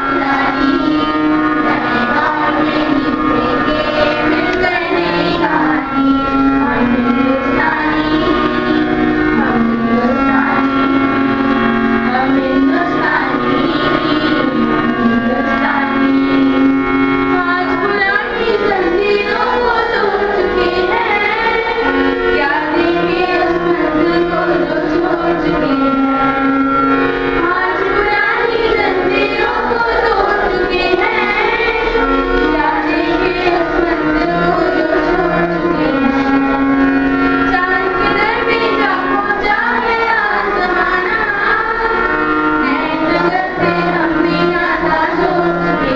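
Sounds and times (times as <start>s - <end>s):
children singing together: 0.0s - 45.9s
sustained instrumental accompaniment: 0.0s - 45.9s.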